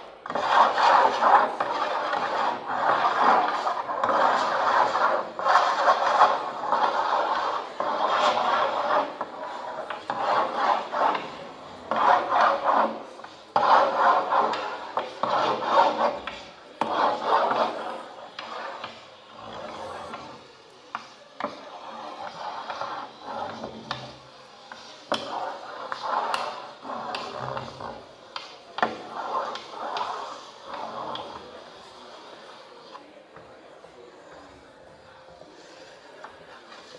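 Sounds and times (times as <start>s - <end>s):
amplified scraping on paper: 0.2s - 33.1s.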